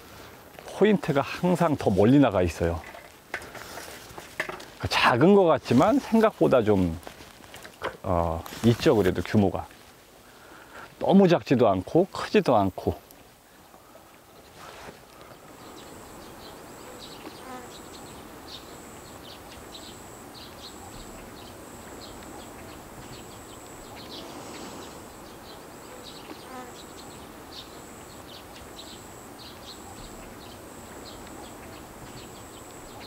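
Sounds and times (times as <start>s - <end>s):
insects buzzing with thin whine: 0.0s - 33.0s.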